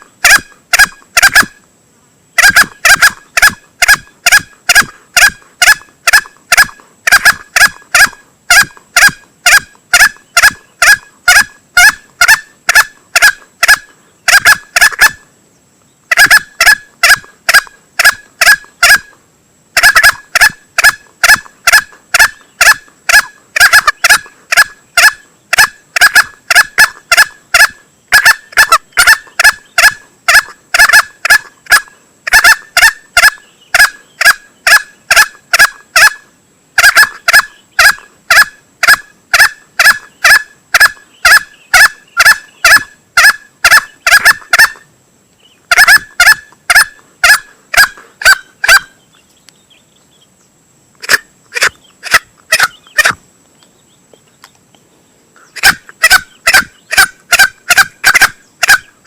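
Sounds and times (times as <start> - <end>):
junglefowl calls: 0.0 - 1.6, 2.4 - 15.3, 16.1 - 19.2, 19.8 - 44.9, 45.6 - 49.1, 51.0 - 53.2, 55.4 - 59.0.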